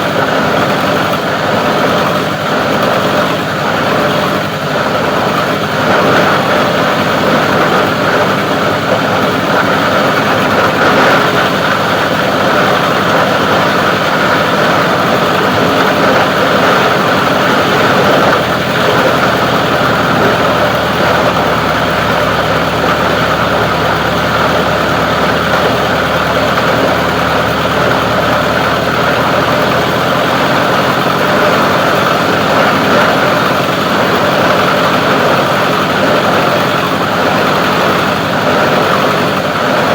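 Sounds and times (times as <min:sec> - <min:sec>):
plastic grinder machine running: 0:00.0 - 0:39.9.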